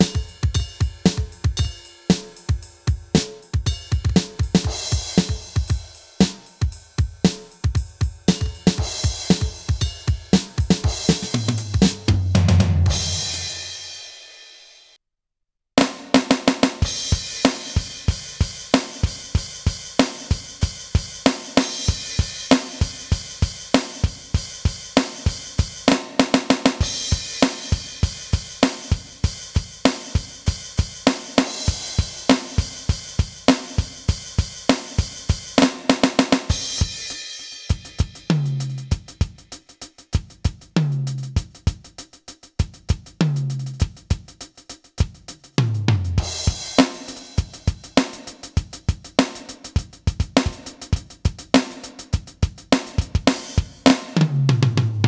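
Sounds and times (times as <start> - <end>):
electronic drum funk groove: 0.0 - 13.8, 15.8 - 54.7.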